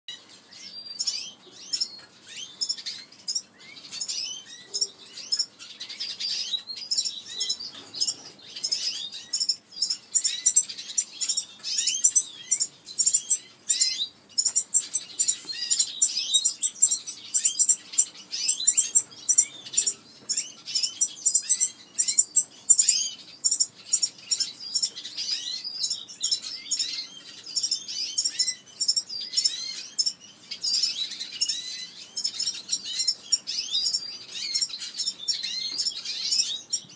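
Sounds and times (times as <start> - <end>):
birds chirping and twittering: 0.1 - 36.9.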